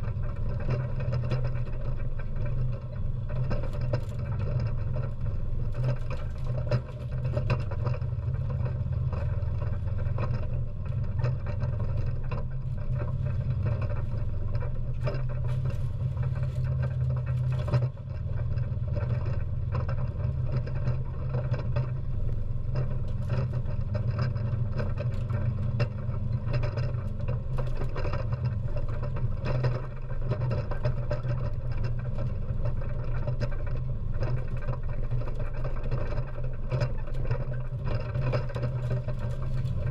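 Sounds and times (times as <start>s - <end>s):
atv engine rumble: 0.0s - 39.9s.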